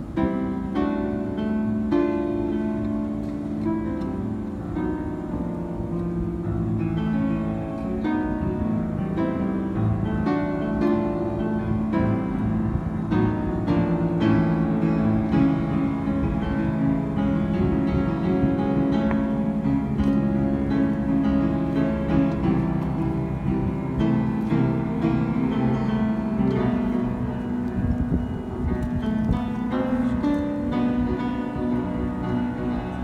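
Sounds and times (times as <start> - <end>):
upright piano playing chords: 0.0 - 33.0.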